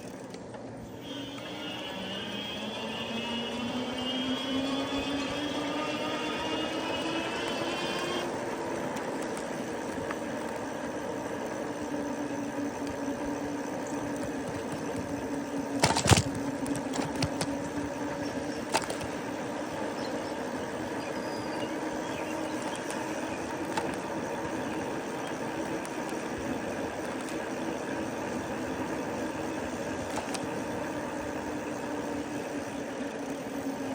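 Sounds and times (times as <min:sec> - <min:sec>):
electric motor whining: 0:00.9 - 0:33.9.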